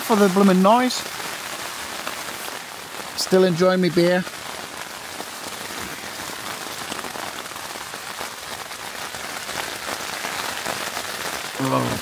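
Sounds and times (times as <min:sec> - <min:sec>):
heavy rain on tent fabric: 0:00.0 - 0:12.0.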